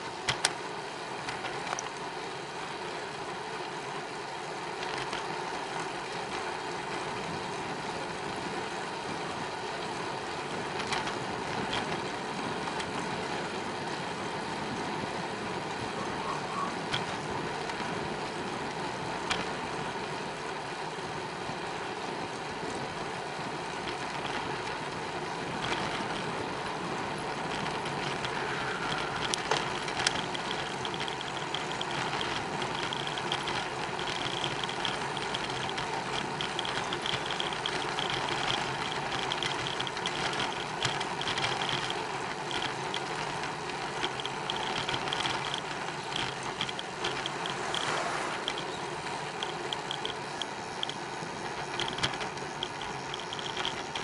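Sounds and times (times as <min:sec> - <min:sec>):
bicycle rolling and rattling: 0:00.0 - 0:54.0.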